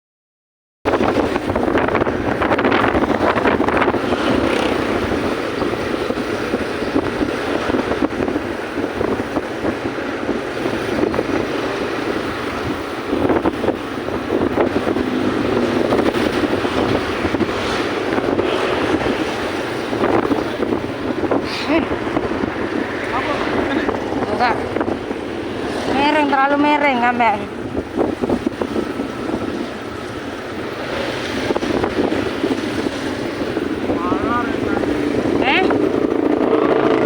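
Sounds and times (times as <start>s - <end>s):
wind buffeting microphone: 0.8s - 37.0s
vehicle running: 1.1s - 37.0s.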